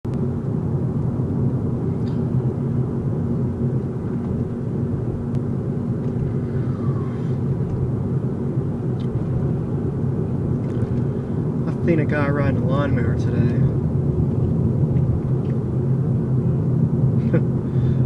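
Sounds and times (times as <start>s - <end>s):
engine droning steadily: 0.1s - 18.0s.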